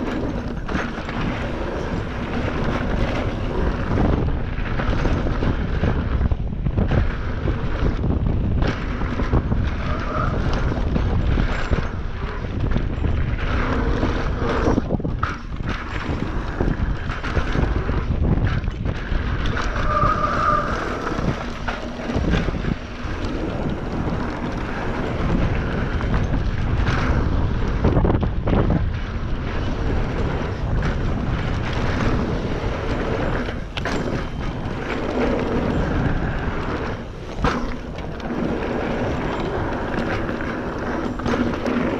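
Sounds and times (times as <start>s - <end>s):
bike rattles and knocks: 0.0s - 41.9s
wind buffeting microphone: 0.0s - 41.9s.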